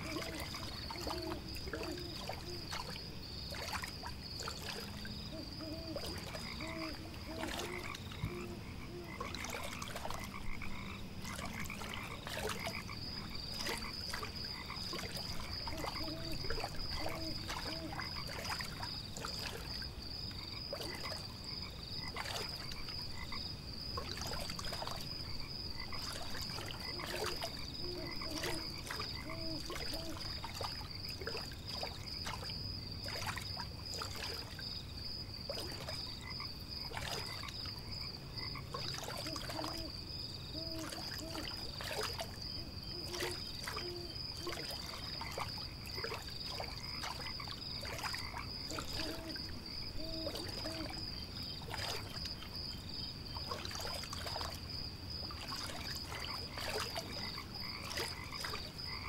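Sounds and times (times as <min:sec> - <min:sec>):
frogs croaking: 0:00.0 - 0:59.0
water lapping and dripping: 0:00.0 - 0:59.0.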